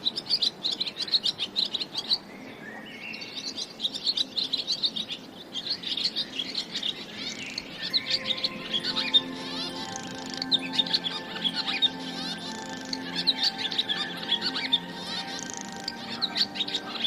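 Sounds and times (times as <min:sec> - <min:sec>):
swallow twittering: 0:03.1 - 0:17.0.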